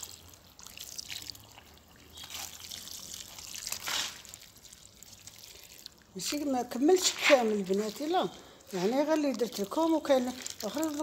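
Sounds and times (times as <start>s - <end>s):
water pouring onto soil: 0.0s - 11.0s.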